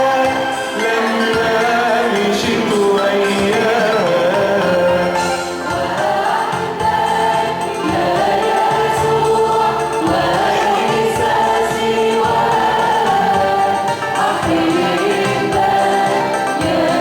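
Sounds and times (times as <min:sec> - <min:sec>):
musical accompaniment: 0:00.0 - 0:17.0
person singing a hymn: 0:00.0 - 0:17.0.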